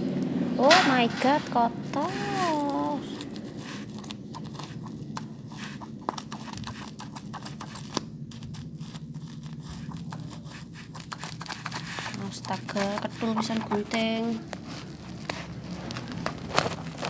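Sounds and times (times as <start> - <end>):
low steady hum: 0.0 - 17.0
plastic packaging crinkling: 1.2 - 17.0.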